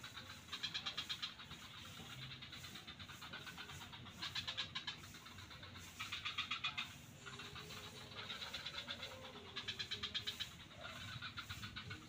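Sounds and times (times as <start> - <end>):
frogs calling in pulsed trills: 0.0 - 12.0.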